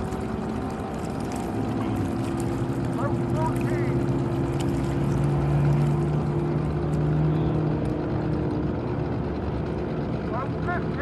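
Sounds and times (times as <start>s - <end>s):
outboard motors droning: 0.0s - 11.0s.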